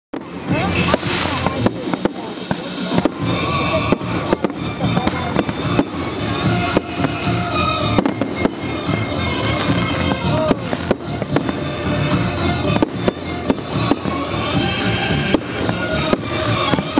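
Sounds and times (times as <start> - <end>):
continuous din: 0.2 - 16.9
fireworks exploding bangs: 0.2 - 16.9
music playing: 0.2 - 16.9.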